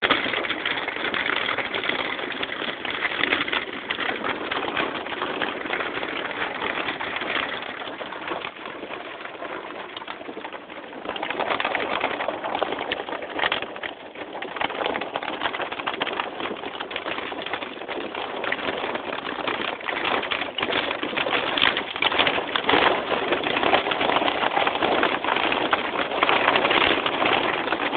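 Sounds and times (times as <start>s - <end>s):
heavy rain on car roof: 0.0s - 27.9s.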